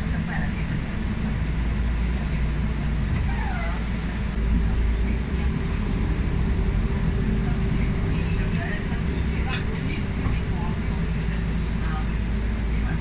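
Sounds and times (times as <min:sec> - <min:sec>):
bus engine drone: 0:00.0 - 0:13.0
steady drivetrain whine: 0:00.0 - 0:13.0.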